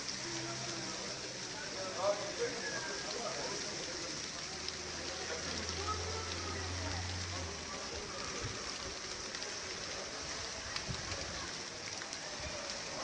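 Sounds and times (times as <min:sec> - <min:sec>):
raindrop ticks: 0:00.0 - 0:13.0
steady hiss of rain: 0:00.0 - 0:13.0.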